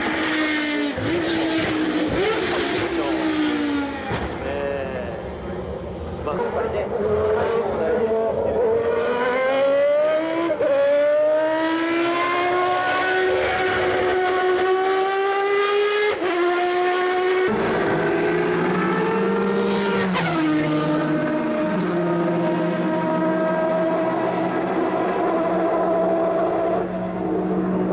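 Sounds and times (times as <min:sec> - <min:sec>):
race engine at high revs: 0:00.0 - 0:27.9.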